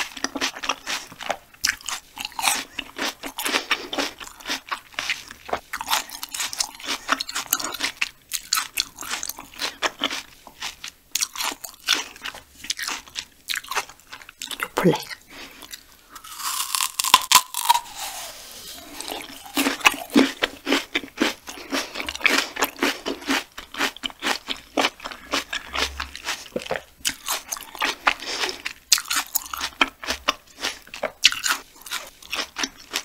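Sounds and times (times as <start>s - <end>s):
crunchy chewing: 0.0s - 33.0s.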